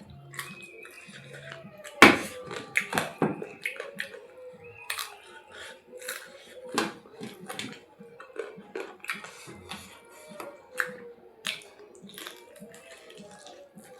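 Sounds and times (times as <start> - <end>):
chewing and lip smacks: 0.0 - 13.9.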